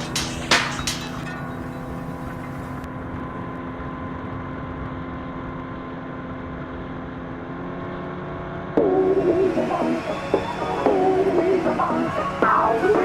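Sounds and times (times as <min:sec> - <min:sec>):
motorboat engine droning: 0:01.4 - 0:13.0.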